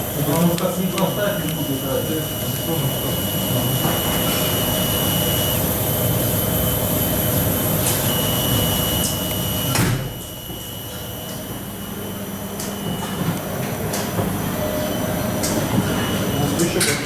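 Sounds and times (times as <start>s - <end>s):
electrical machinery humming: 0.0s - 17.0s.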